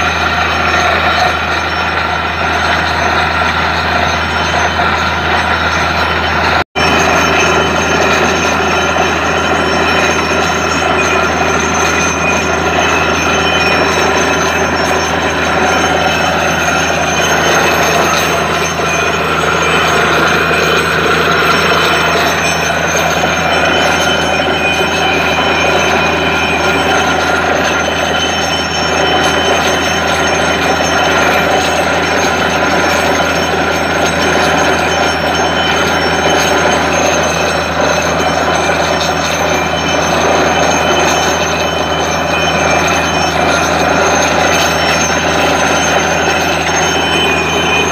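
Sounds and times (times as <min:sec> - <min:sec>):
drilling rig mechanical din: 0:00.0 - 0:47.9
steady high tones: 0:00.0 - 0:47.9.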